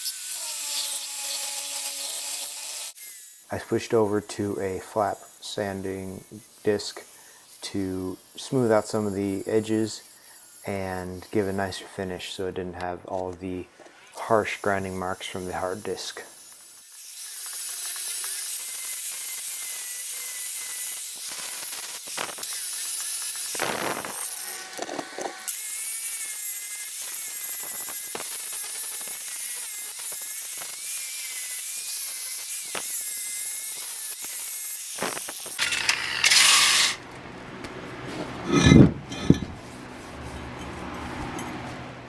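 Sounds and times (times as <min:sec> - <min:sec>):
angle grinder sanding steel: 0:00.0 - 0:12.5, 0:14.1 - 0:37.0, 0:38.4 - 0:41.7.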